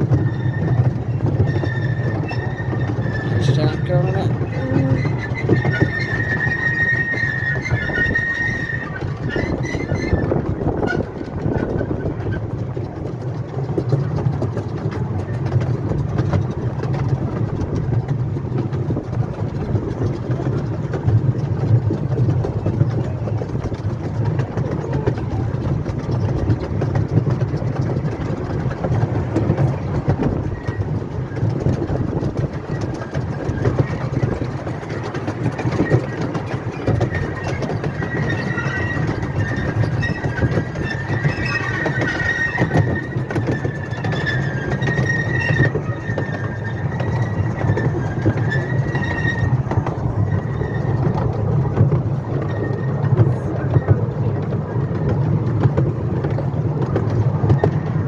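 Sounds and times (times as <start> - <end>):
miniature train rumbling: 0.0 - 58.0
wheel clatter: 0.0 - 58.0
wheel squeal on rails: 0.0 - 58.0.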